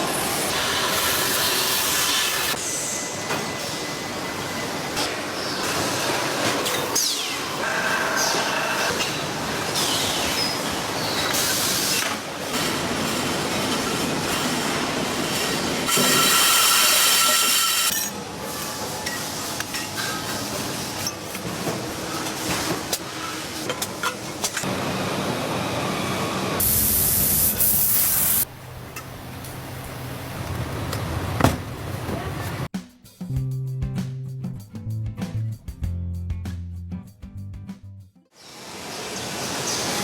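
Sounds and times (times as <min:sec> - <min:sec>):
factory machinery hissing and rattling: 0:00.0 - 0:32.7.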